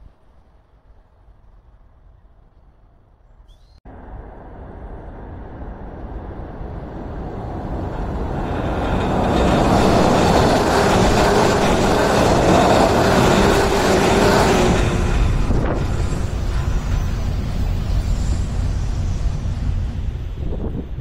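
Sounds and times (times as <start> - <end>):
train crossing steel bridge: 0.0 - 21.0.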